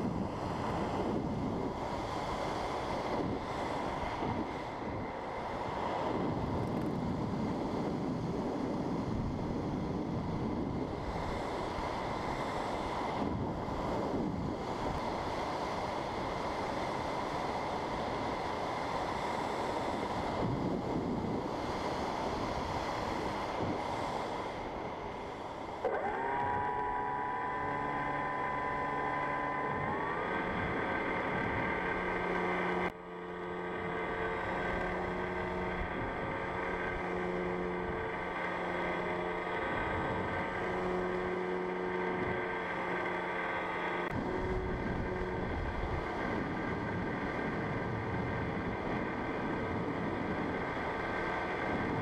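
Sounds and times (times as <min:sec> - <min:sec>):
electric motor and propeller whine: 0:00.0 - 0:52.0
wind rushing over microphone: 0:00.0 - 0:52.0.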